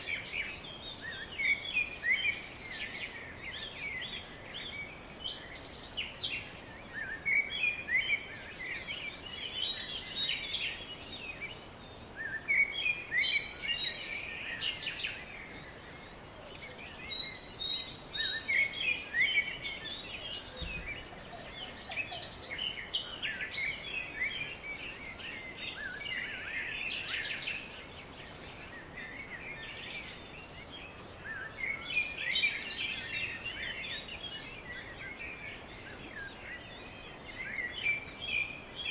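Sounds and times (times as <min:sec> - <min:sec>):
birds chirping and trilling: 0:00.0 - 0:38.9
steady background hiss: 0:00.0 - 0:38.9.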